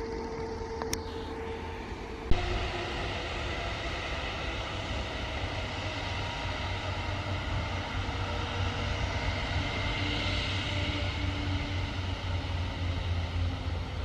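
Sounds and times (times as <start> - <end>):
faint engine whine: 0.0 - 14.0
jet engines rumbling: 0.0 - 14.0.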